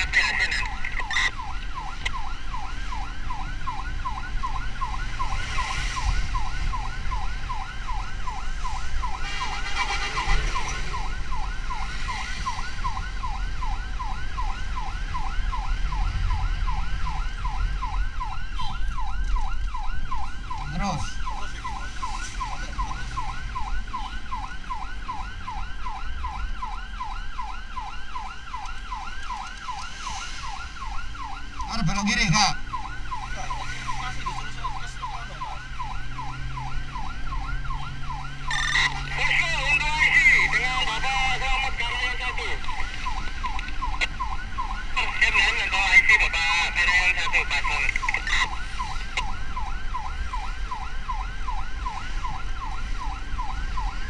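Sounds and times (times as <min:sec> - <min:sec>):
ambulance siren yelping: 0:00.0 - 0:54.0
vehicle rumble: 0:00.0 - 0:54.0.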